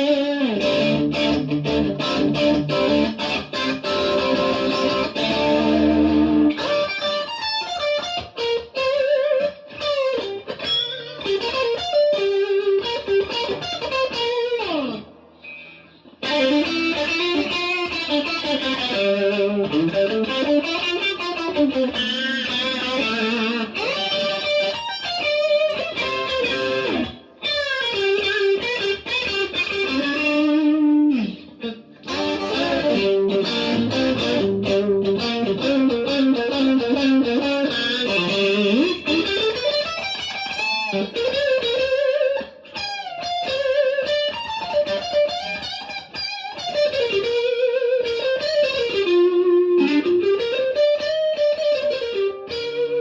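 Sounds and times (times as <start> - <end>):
electric guitar lead lines: 0.0 - 53.0.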